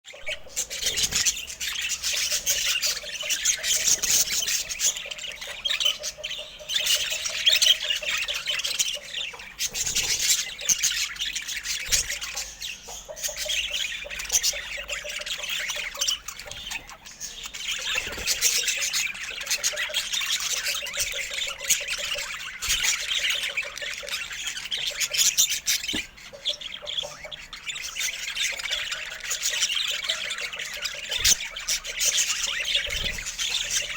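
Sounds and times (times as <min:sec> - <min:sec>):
budgerigar chattering: 0:00.1 - 0:33.9.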